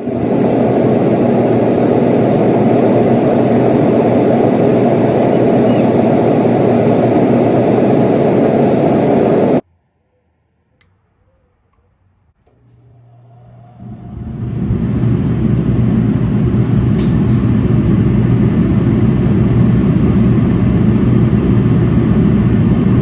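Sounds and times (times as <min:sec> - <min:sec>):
heater burner and fan rushing: 0:00.0 - 0:09.6, 0:12.5 - 0:23.0
low hum: 0:00.0 - 0:09.6, 0:12.4 - 0:23.0.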